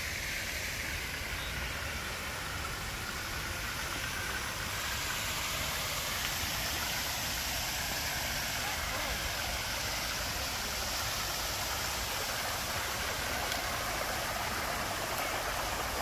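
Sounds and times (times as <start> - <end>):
fountain splashing into pond: 0.0 - 16.0.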